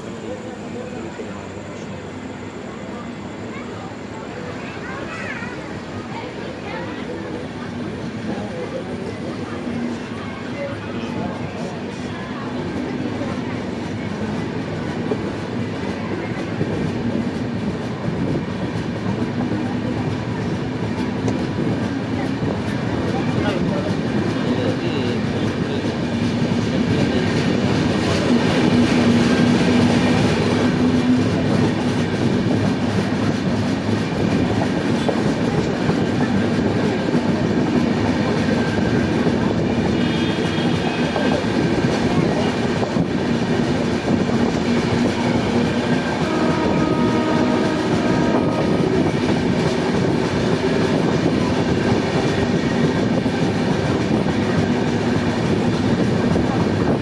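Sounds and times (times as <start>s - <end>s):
train wheels rumbling on rails: 0.0s - 57.0s
clickety-clack over rail joints: 6.9s - 57.0s.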